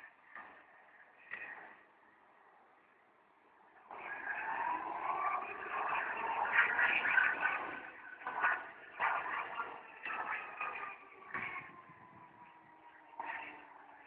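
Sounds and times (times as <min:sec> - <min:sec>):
turbine powerboat whine: 0:00.0 - 0:14.0.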